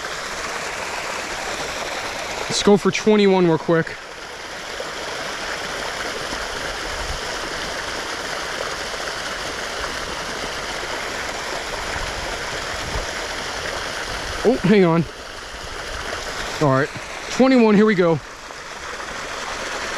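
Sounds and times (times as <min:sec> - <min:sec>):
creek water rushing: 0:00.0 - 0:19.9.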